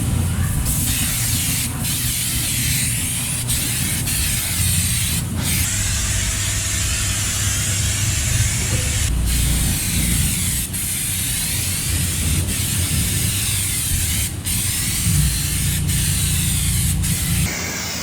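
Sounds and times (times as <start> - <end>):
pressure washer water jet hissing: 0.0 - 18.0
pump droning: 0.0 - 18.0.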